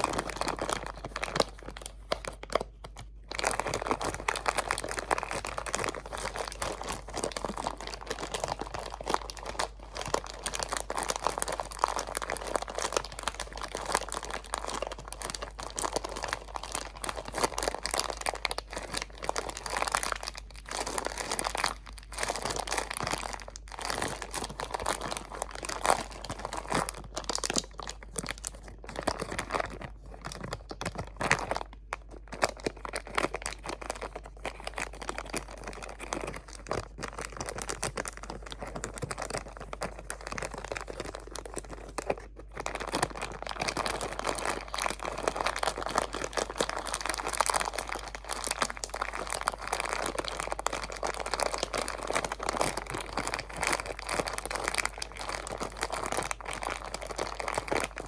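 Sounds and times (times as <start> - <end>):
crinkly material crumpled: 0.0 - 58.0.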